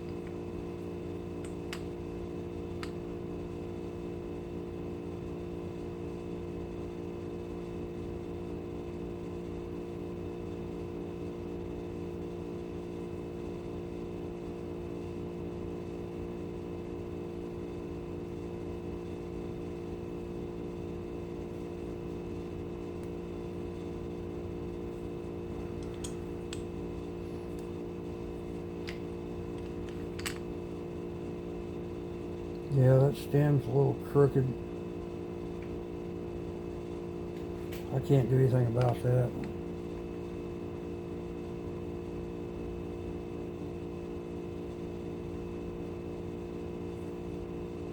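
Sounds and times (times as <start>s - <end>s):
steady background hum: 0.0s - 47.9s.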